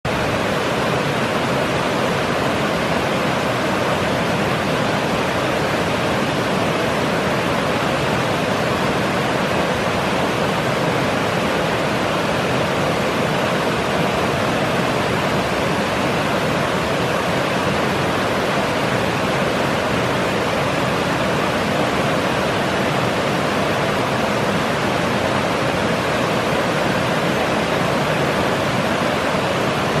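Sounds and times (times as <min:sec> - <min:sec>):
creek rushing over rocks: 0:00.1 - 0:30.0.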